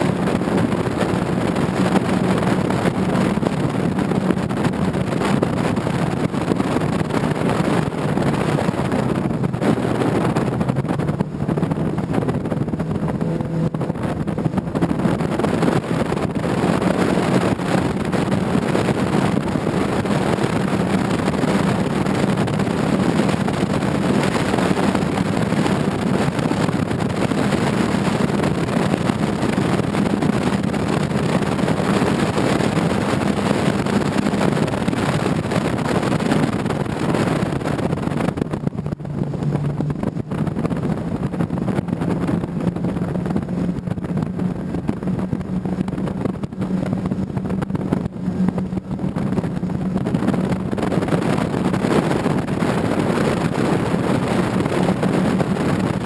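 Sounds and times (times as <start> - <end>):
powerboat engine at speed: 0.0 - 56.0
rush of wind and water: 0.0 - 56.0.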